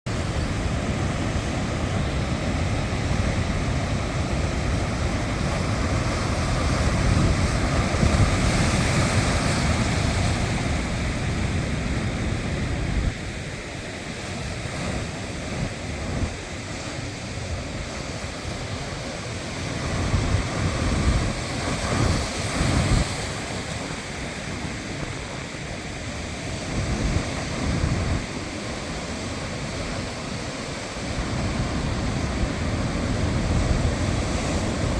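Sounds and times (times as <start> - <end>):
sea waves breaking: 0.1 - 34.9
wind buffeting microphone: 0.1 - 34.9.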